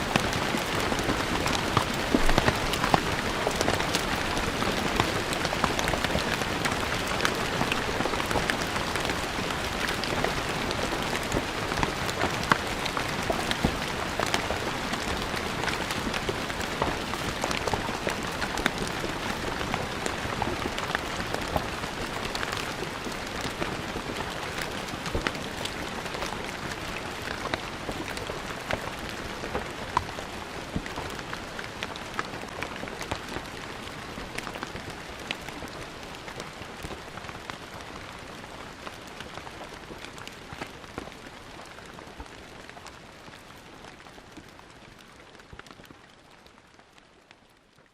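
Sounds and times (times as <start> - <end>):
rain on stone paving: 0.0 - 47.9.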